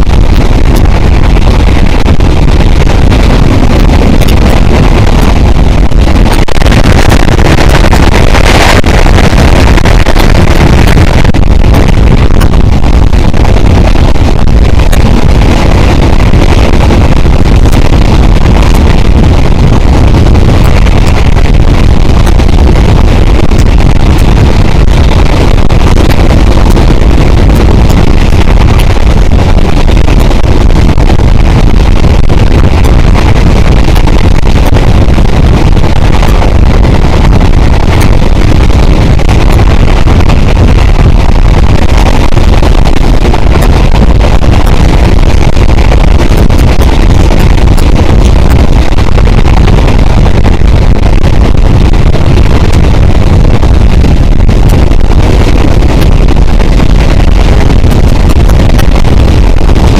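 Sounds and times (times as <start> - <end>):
loud wind rush: 0.0 - 59.9.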